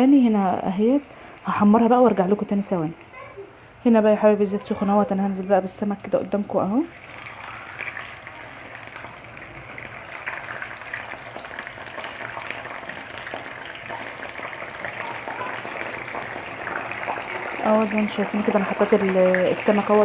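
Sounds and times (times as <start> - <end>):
fish sizzling in hot oil: 0.0 - 3.2, 6.7 - 20.0.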